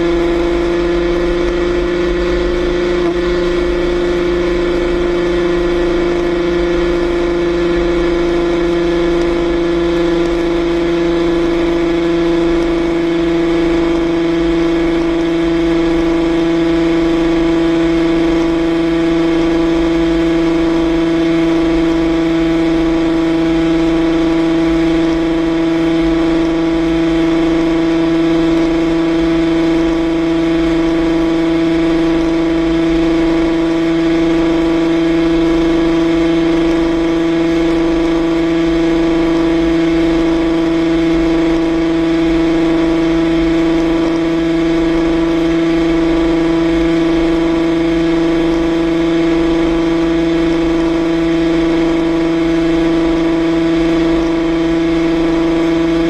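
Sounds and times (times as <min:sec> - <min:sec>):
two-stroke motorcycle engine cruising: 0:00.0 - 0:56.0.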